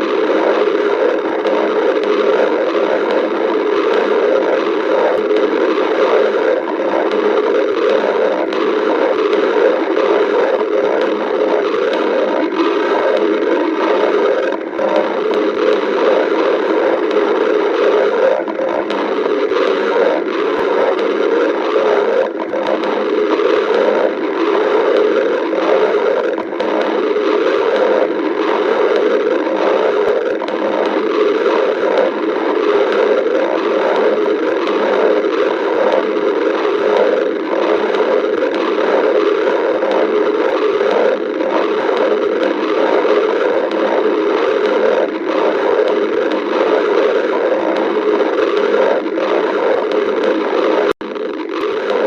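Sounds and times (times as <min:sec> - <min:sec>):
stomach growling: 0:00.0 - 0:52.0.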